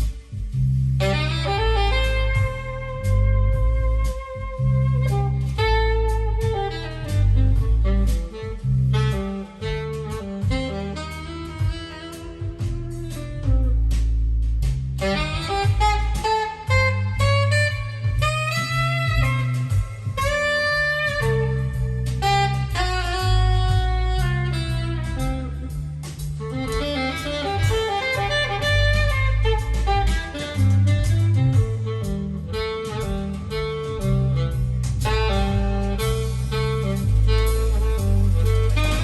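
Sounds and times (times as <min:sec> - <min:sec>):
jazz blues music over loudspeakers: 0:00.0 - 0:39.0
saxophone lead: 0:00.0 - 0:39.0
strong bass line: 0:00.0 - 0:39.0.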